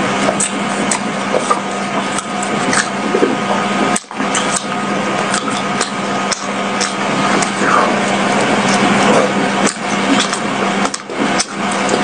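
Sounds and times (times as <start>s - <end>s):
chewing sticky rice ball: 0.0s - 12.0s
low hum: 0.0s - 12.0s.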